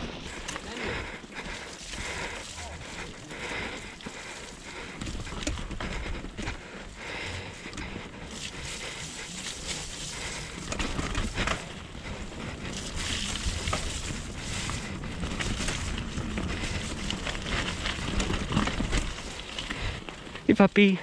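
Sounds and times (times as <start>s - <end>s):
bike rattles and knocks: 0.0s - 20.5s
bike tyres on dirt trail: 0.0s - 21.0s.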